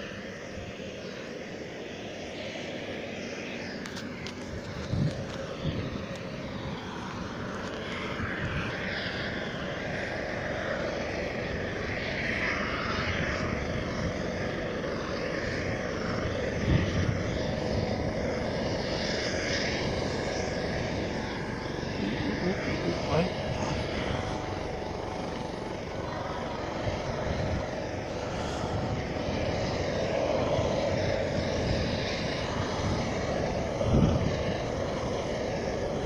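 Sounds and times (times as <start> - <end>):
aircraft engine droning overhead: 0.0 - 36.0.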